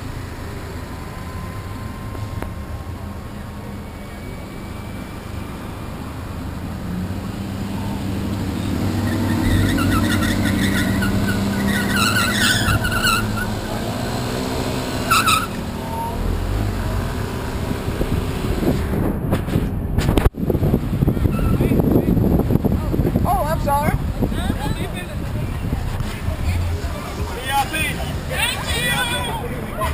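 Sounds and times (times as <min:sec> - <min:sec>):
road noise: 0:00.0 - 0:29.9.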